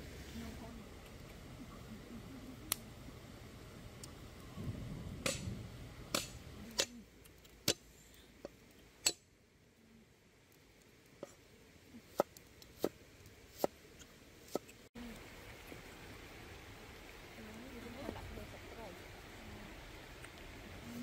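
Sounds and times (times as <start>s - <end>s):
low steady background noise: 0.0s - 21.0s.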